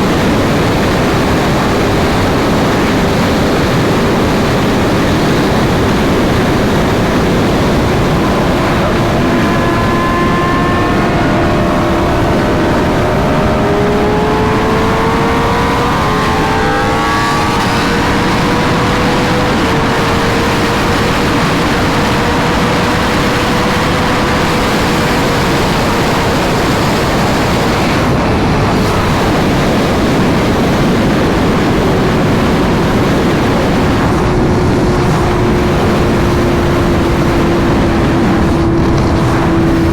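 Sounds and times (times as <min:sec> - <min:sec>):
motorcycle engine: 0:00.0 - 0:39.9
second motorcycle engine: 0:00.0 - 0:39.9
wind rushing: 0:00.0 - 0:39.9.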